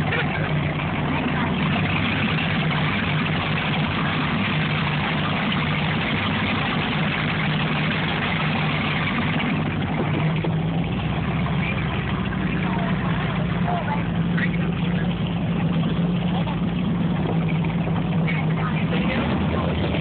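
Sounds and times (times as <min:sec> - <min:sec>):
powerboat engines humming: 0:00.0 - 0:20.0
water churning in wake: 0:00.0 - 0:20.0.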